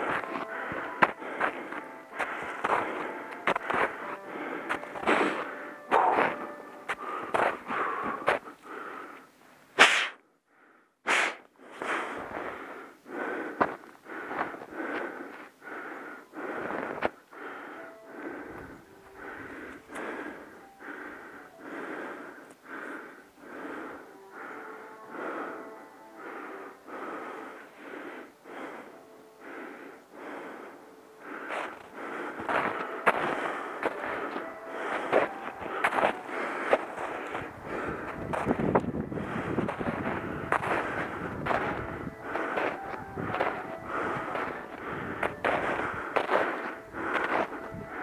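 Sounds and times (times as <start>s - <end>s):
person breathing hard: 0.0s - 48.0s.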